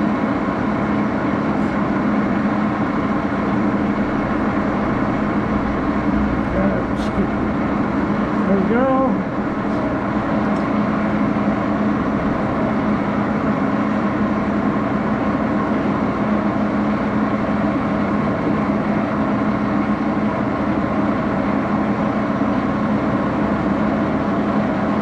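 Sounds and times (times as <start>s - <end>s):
lathe humming: 0.0s - 20.7s.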